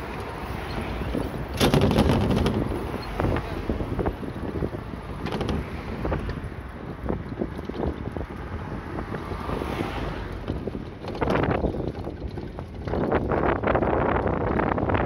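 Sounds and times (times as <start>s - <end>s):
wind buffeting microphone: 0.0s - 15.0s
light knocks and rattles: 0.7s - 8.6s, 9.2s - 14.6s.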